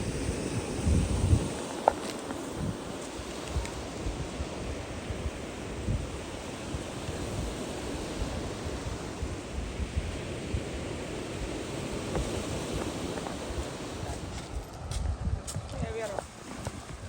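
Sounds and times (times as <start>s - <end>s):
wind rushing: 0.0s - 2.9s, 3.6s - 17.0s
sea: 0.0s - 17.0s
wind buffeting the microphone: 0.0s - 17.0s.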